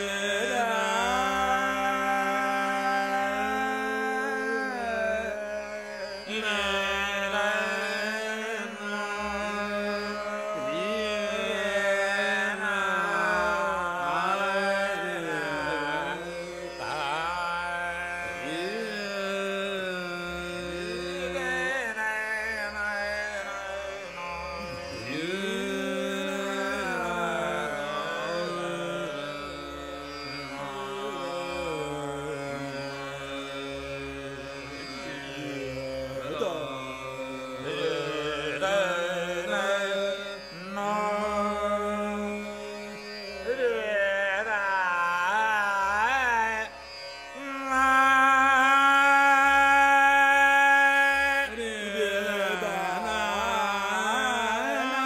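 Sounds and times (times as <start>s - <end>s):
man singing long held notes: 0.0s - 46.8s, 47.4s - 55.0s
tanpura drone: 0.0s - 55.0s.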